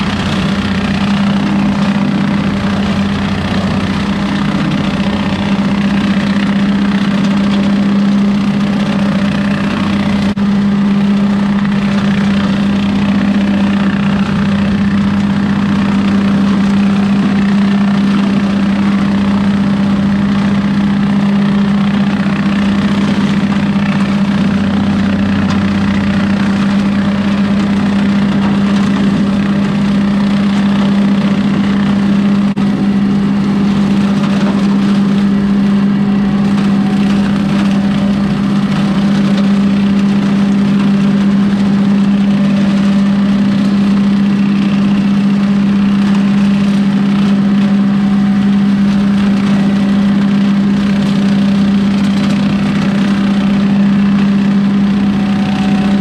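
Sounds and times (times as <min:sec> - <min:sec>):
rotary cutter shredding stalks: 0:00.0 - 0:56.0
tractor diesel engine running: 0:00.0 - 0:56.0.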